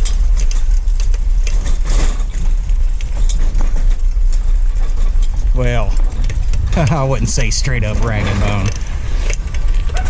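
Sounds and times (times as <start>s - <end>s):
light rattles and clicks: 0.0s - 10.0s
vehicle engine rumbling: 0.0s - 10.0s.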